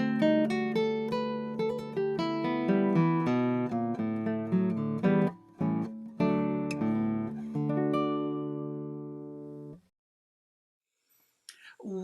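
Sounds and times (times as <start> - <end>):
acoustic guitar plucked notes: 0.0 - 9.9.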